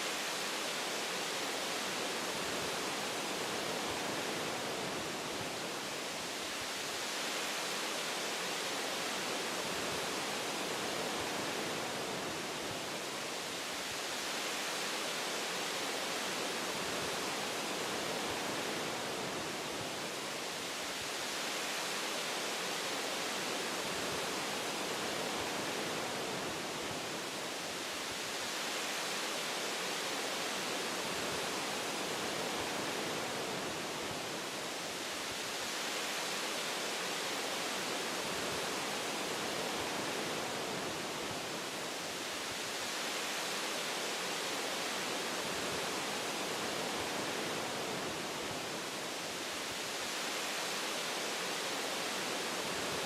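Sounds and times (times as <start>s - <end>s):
wind through tree branches: 0.0s - 53.0s.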